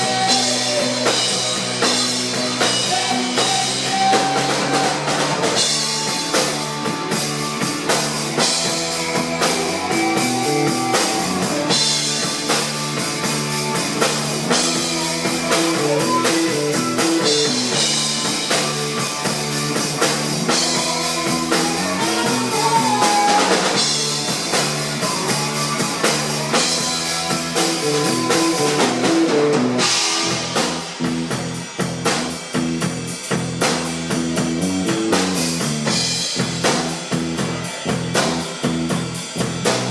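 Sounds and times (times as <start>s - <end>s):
bass line: 0.0s - 39.9s
drum kit beat: 0.0s - 39.9s
rock band playing: 0.0s - 39.9s.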